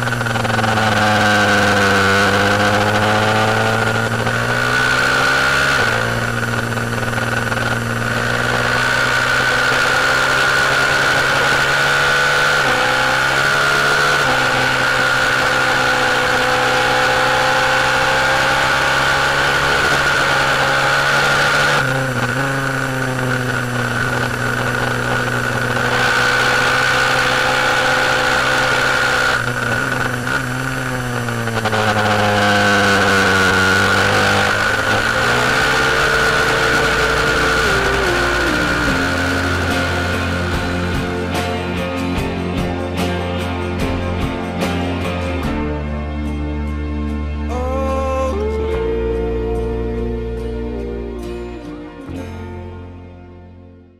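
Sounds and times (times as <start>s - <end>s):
high whine: 0.0s - 45.7s
motorcycle engine revving: 0.0s - 45.7s.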